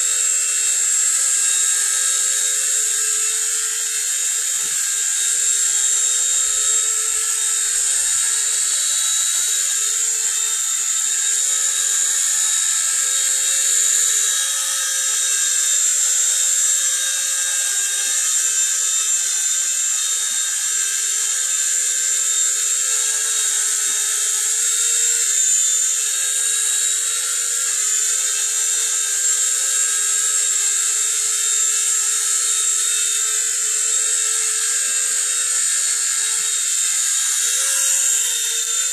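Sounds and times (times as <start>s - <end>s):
toy helicopter rotor whirring: 0.0s - 38.9s.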